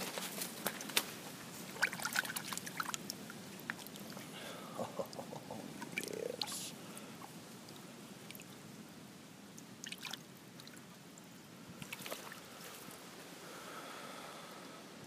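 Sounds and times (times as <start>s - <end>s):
creek water trickling: 0.5s - 13.7s.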